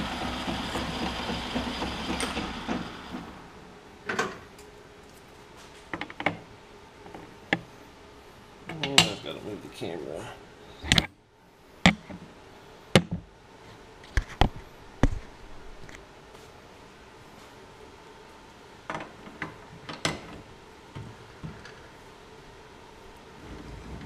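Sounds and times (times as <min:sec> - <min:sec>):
faint workshop noise: 0:00.0 - 0:24.0.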